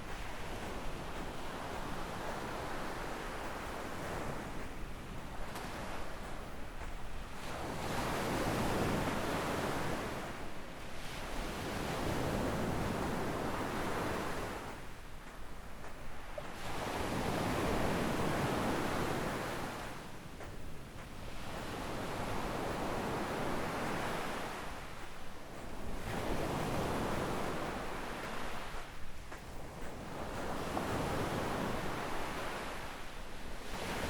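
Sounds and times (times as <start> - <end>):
waves washing up a beach: 0.0 - 34.0.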